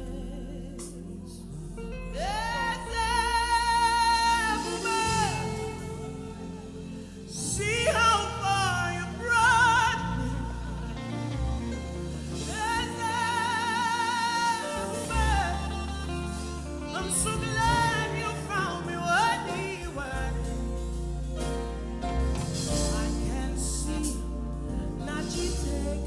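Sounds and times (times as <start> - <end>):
bass accompaniment: 0.0 - 26.0.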